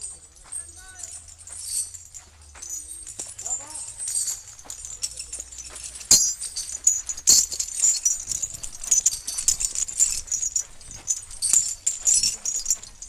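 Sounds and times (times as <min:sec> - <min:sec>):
heavy iron chains clinking: 0:00.0 - 0:13.0.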